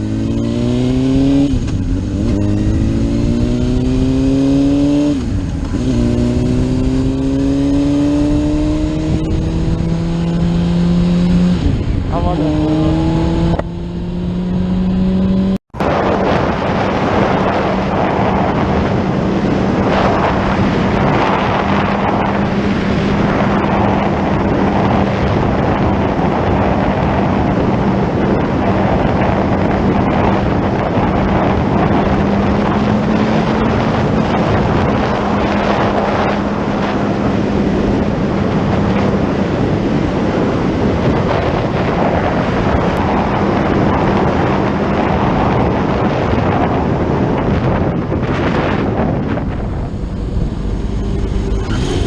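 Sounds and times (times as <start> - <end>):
motorcycle engine drone: 0.0 - 52.0
wind rush on microphone: 0.0 - 52.0.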